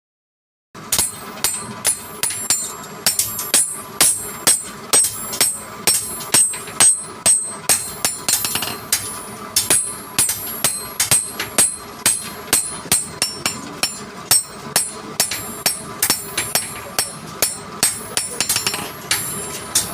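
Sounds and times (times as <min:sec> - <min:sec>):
hammer ringing on metal: 0:00.9 - 0:19.9.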